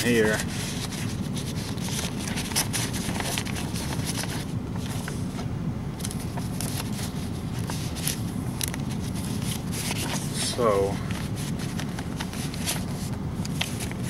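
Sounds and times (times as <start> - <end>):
paper rustling and crinkling: 0.0 - 5.4, 6.0 - 14.0.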